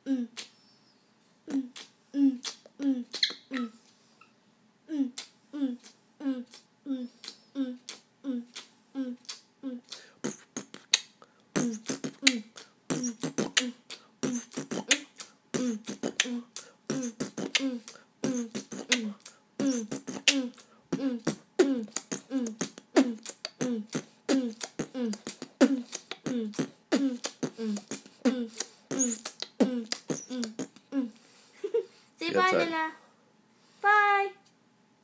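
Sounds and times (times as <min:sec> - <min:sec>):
cockatiel beatboxing boom notes: 0:01.5 - 0:03.7, 0:05.2 - 0:31.1.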